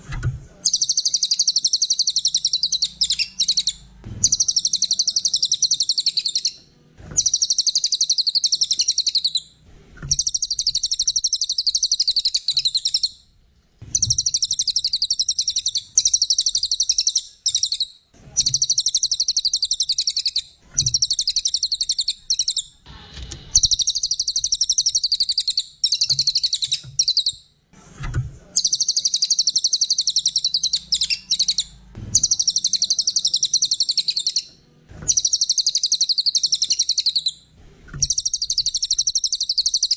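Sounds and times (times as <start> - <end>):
small songbird chattering: 0.6 - 6.6, 7.2 - 9.5, 10.1 - 13.2, 13.9 - 22.8, 23.6 - 27.4, 28.6 - 34.5, 35.1 - 37.4, 38.0 - 39.9.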